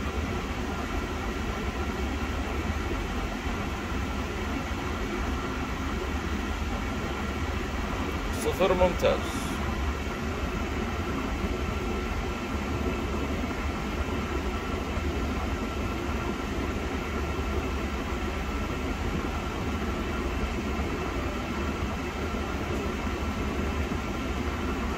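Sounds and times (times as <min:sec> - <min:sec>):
engine idling hum: 0:00.0 - 0:24.9
faint steady whine: 0:00.0 - 0:24.9.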